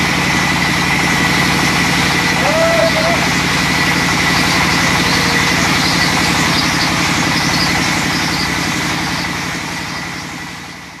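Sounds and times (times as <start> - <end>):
band saw cutting log: 0.0 - 10.8.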